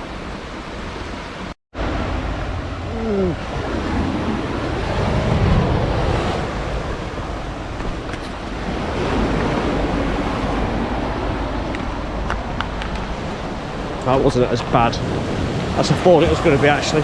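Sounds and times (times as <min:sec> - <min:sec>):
sea waves washing on shore: 0:00.0 - 0:17.0
wind on microphone: 0:01.8 - 0:17.0.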